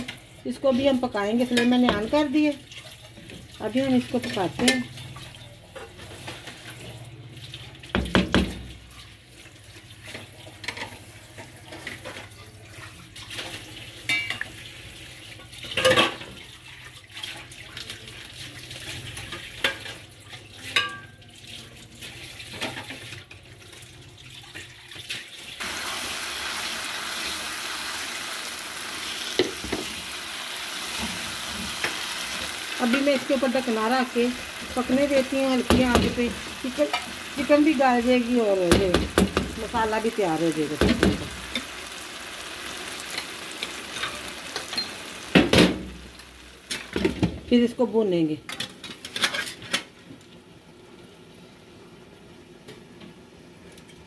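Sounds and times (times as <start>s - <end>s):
food sizzling in oil: 0.0s - 48.2s.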